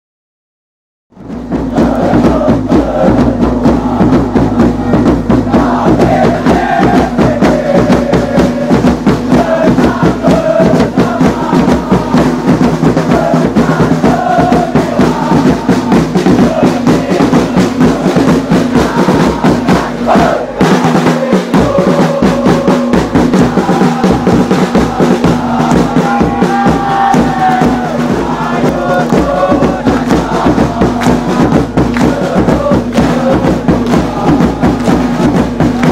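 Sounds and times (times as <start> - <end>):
drums beating fast rhythm: 1.1 - 35.9
crowd chanting in unison: 1.2 - 35.9.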